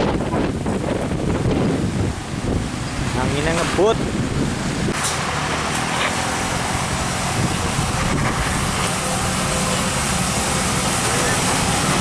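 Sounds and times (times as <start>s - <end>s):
diesel truck passing: 0.0s - 12.0s
road noise: 0.0s - 12.0s.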